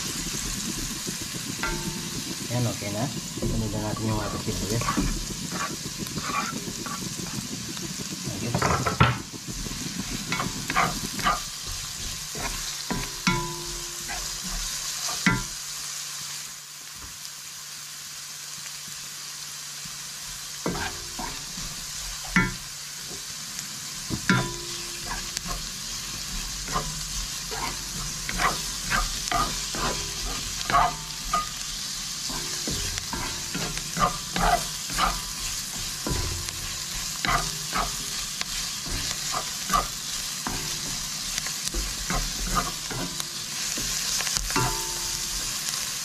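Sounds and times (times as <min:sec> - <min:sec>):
spatula clacking against pan: 0:00.0 - 0:02.6, 0:03.3 - 0:15.6, 0:20.7 - 0:22.7, 0:24.1 - 0:45.8
onion sizzling in a pan: 0:00.0 - 0:46.0.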